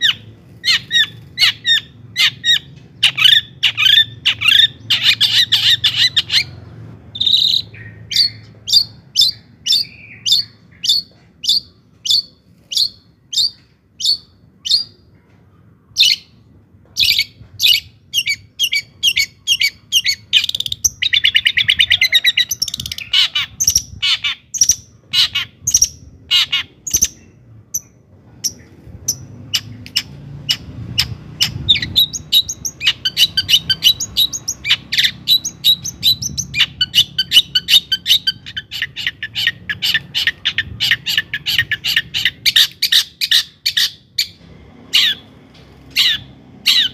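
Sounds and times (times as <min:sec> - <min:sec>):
bird chattering and trilling: 0:00.0 - 0:15.1, 0:17.0 - 0:45.3, 0:45.9 - 0:46.9.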